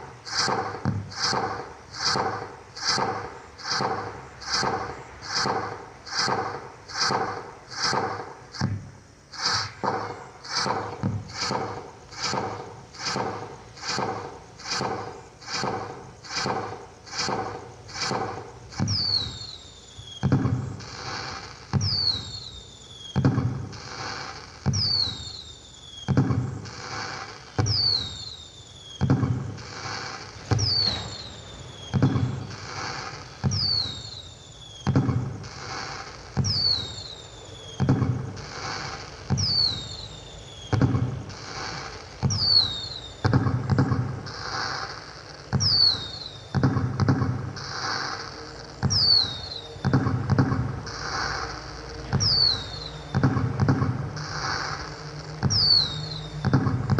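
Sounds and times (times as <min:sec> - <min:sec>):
firecracker pops: 0:00.0 - 0:22.4, 0:23.0 - 0:25.4, 0:26.0 - 0:28.3, 0:28.9 - 0:34.2, 0:34.8 - 0:37.0, 0:37.7 - 0:48.0, 0:48.8 - 0:56.9
falling whistle and bang: 0:00.0 - 0:56.9.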